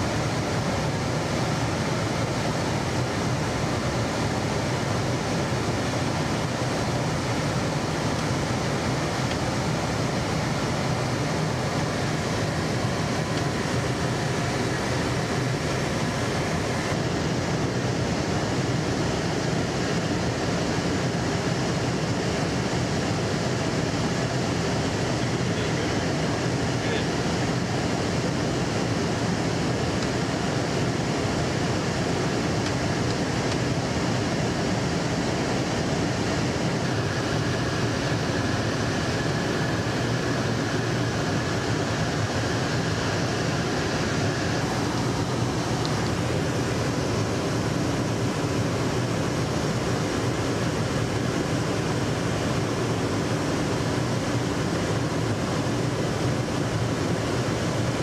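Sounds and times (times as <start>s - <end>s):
jet cabin airflow and engine drone: 0.0s - 58.0s.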